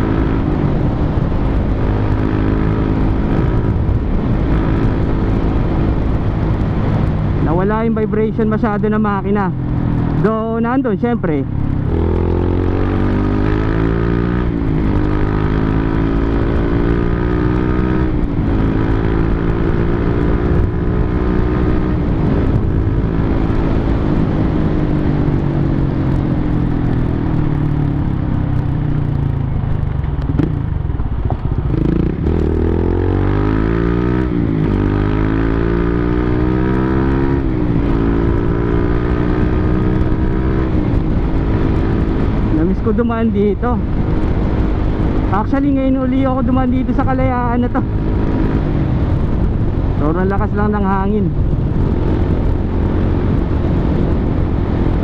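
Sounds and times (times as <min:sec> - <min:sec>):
motorcycle engine shifting gears: 0:00.0 - 0:55.0.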